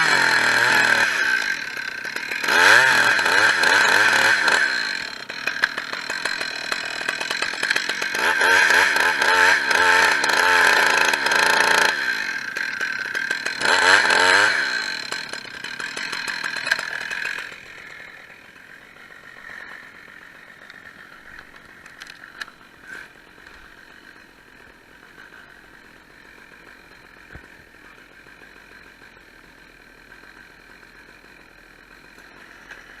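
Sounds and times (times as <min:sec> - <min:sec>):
chainsaw revving: 0:00.0 - 0:33.0.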